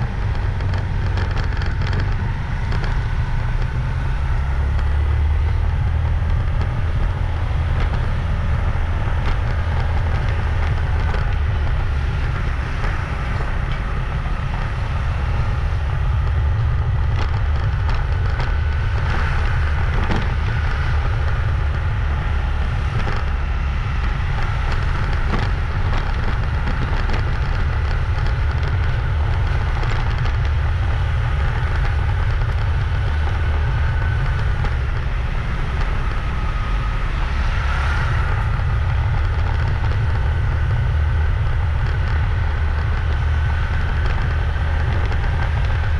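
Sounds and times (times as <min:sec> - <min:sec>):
motorbike engine running: 0:00.0 - 0:45.9
wind rumbling on microphone: 0:00.0 - 0:45.9.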